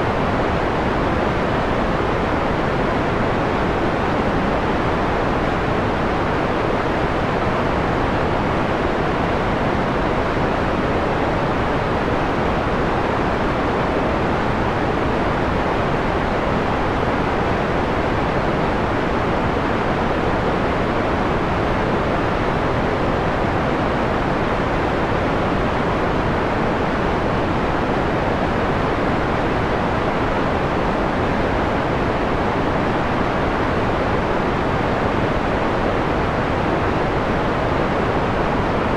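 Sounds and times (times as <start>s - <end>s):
filtered white noise hiss: 0.0s - 38.9s.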